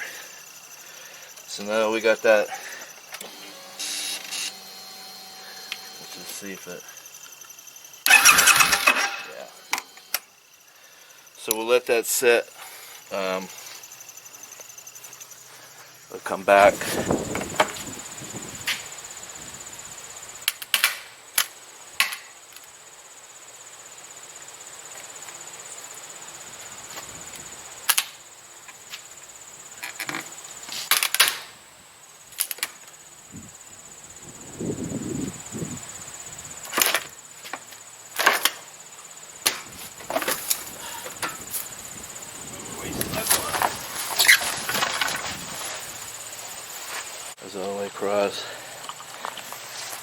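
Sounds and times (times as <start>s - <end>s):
high-pitched insect trill: 0.0s - 50.0s.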